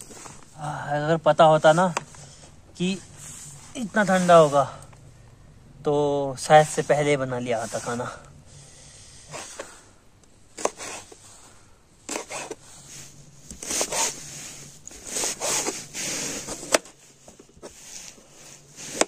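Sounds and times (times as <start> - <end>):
rustling and scraping: 0.0 - 5.1, 6.4 - 8.3, 9.2 - 19.0.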